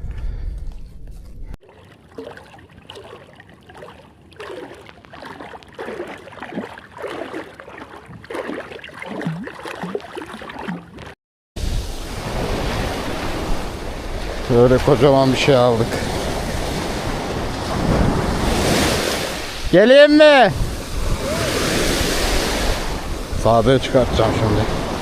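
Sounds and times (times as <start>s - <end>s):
water lapping and gurgling: 1.6s - 11.2s, 11.8s - 25.0s.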